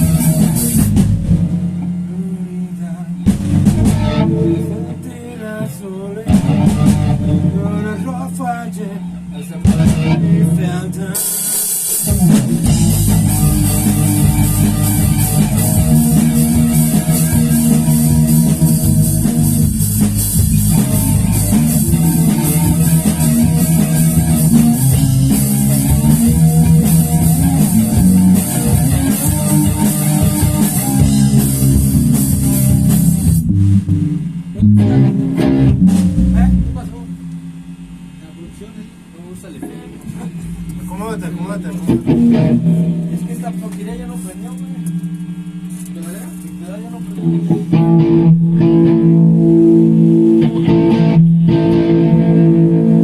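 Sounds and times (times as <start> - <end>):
rock band playing: 0.0 - 8.6, 9.2 - 38.2, 39.6 - 43.7, 47.0 - 53.0.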